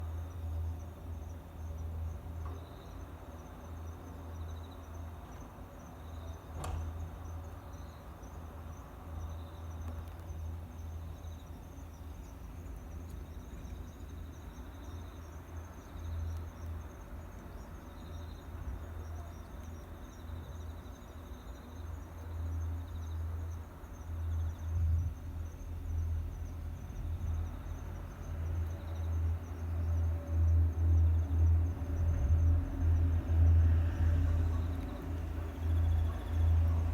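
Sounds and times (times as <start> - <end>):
insects chirping: 0.0 - 36.9.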